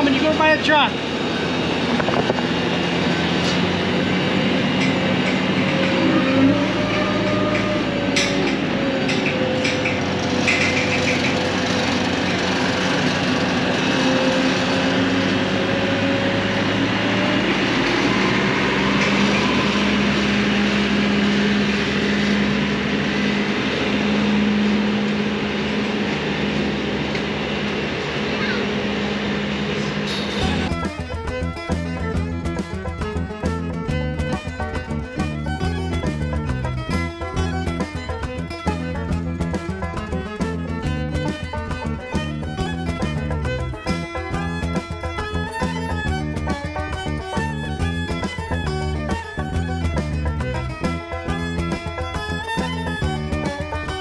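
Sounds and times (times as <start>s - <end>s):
loader engine running: 0.0s - 54.0s.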